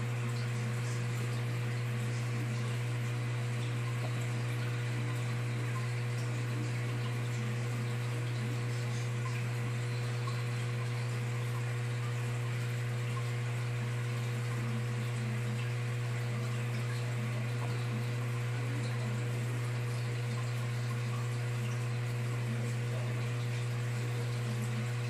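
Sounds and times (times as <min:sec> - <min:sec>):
aquarium equipment humming: 0:00.0 - 0:25.0.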